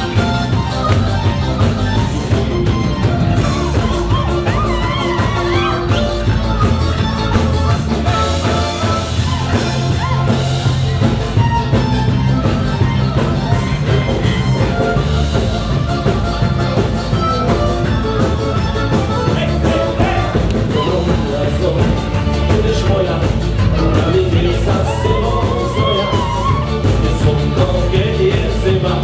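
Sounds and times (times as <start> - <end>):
steady drum beat: 0.0 - 29.0.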